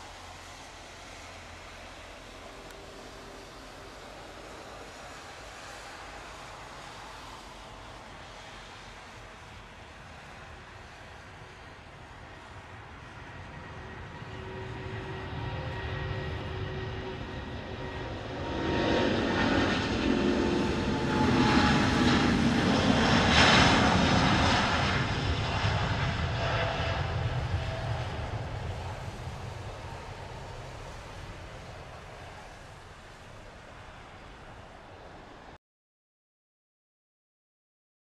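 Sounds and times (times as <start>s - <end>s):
jet engines at take-off power: 0.0s - 35.6s.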